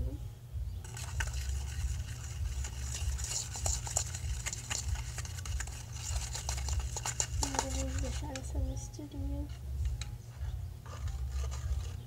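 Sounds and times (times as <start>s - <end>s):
spoon scraping plastic pot: 0.8s - 8.6s, 9.5s - 12.0s.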